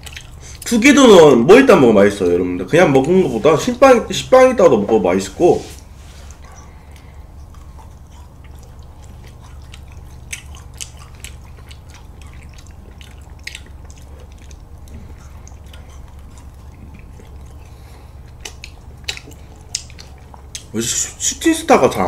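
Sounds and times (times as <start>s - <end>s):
person eating ice cream: 0.0s - 1.4s, 2.1s - 22.0s
steady low hum: 0.0s - 22.0s.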